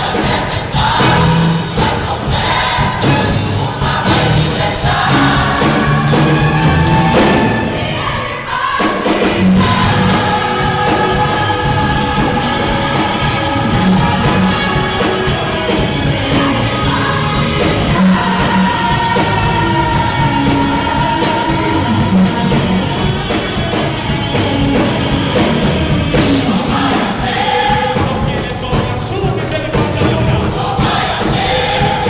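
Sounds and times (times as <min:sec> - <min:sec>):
music with singing voice: 0:00.0 - 0:32.0.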